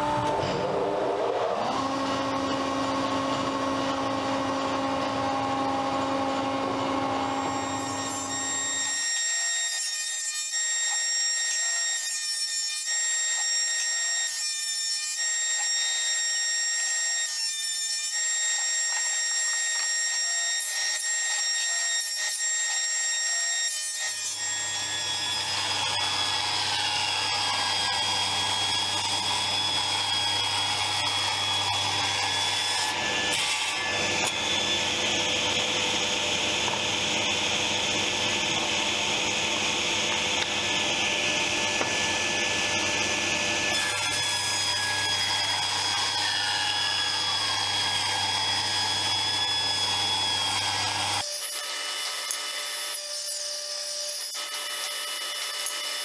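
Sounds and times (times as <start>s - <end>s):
board cutting bursts: 0.0s - 56.0s.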